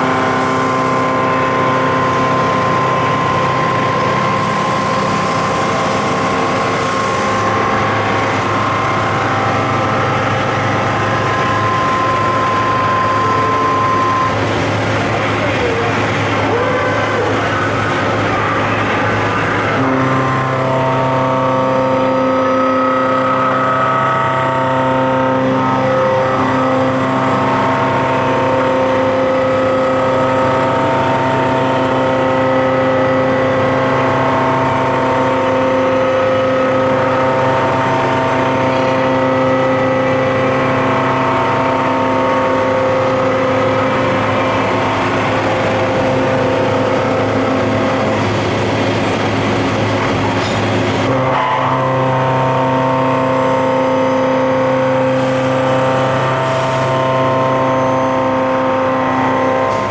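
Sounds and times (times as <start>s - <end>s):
machining center whine: 0.0s - 59.9s.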